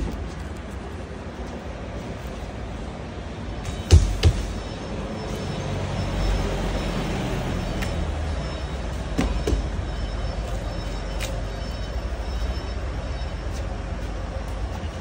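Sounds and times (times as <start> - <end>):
vehicle and yard rumble: 0.0 - 15.0.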